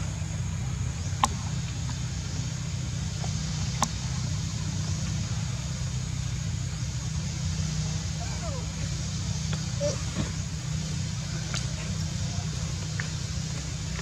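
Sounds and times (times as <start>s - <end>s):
low engine-like hum: 0.0s - 14.0s.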